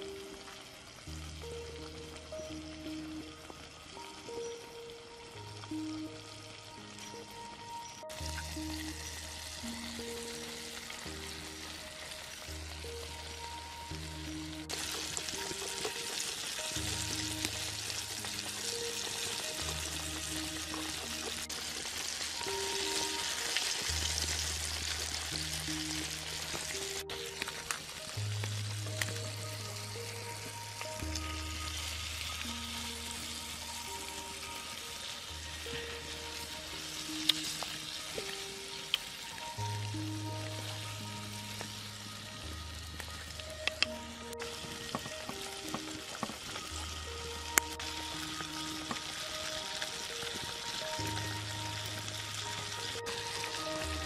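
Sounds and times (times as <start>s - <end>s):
chicken deep-frying in oil: 0.0s - 54.0s
soft background music: 0.0s - 54.0s.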